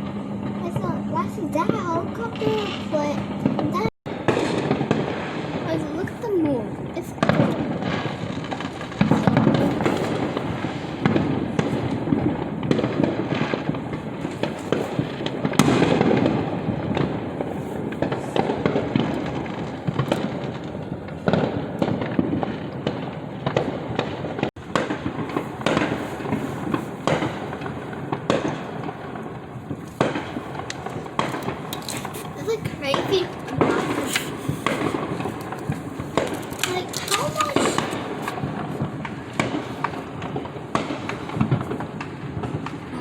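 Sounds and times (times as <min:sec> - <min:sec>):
constant rumble of explosions: 0:00.0 - 0:43.0
fireworks bangs and pops: 0:00.0 - 0:43.0.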